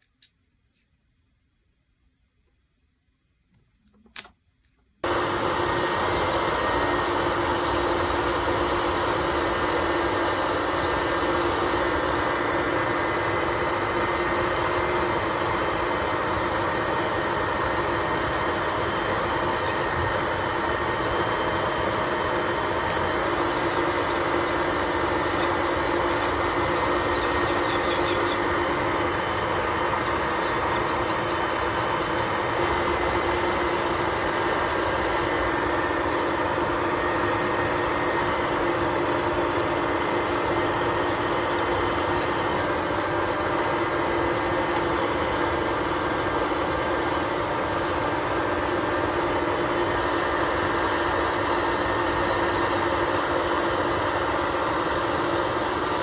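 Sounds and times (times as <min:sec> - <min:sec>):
nail drill whirring: 0:05.0 - 0:56.0.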